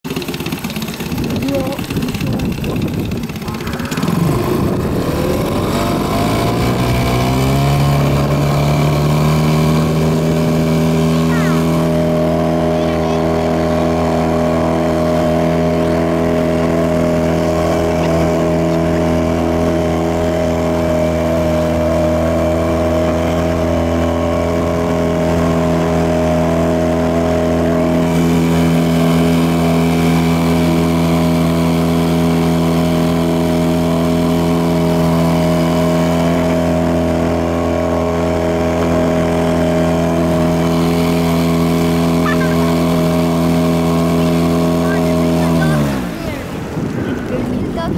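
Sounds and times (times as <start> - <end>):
outboard motor running: 0.0 - 47.9
water rushing past hull: 0.1 - 47.9.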